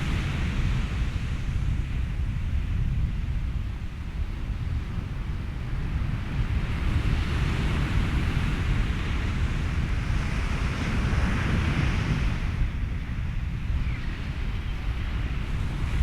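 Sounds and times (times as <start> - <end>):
ocean surf: 0.0 - 16.0
wind: 0.0 - 16.0.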